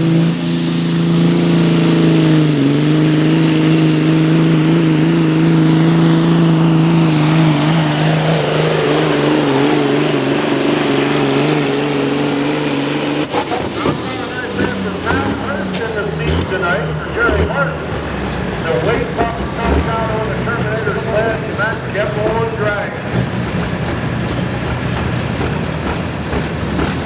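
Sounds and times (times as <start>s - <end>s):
truck diesel engine at high revs: 0.0s - 27.0s.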